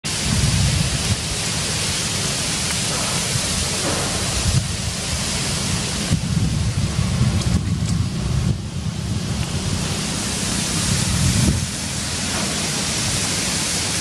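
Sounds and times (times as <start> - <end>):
strong wind blowing: 0.0 - 14.0
wind buffeting microphone: 0.0 - 14.0.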